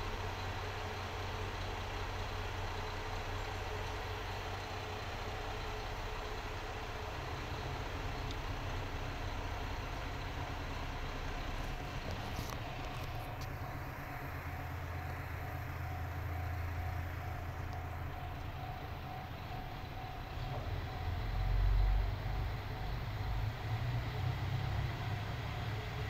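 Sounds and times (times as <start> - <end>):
diesel railcar engine rumbling: 0.0 - 26.0.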